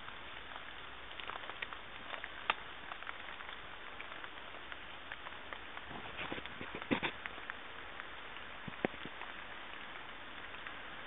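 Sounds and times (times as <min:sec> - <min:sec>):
rain falling on woodland: 0:00.0 - 0:11.0.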